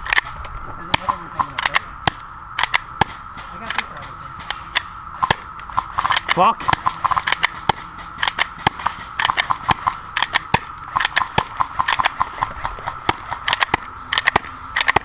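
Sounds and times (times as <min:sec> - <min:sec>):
airsoft guns firing: 0:00.1 - 0:15.0.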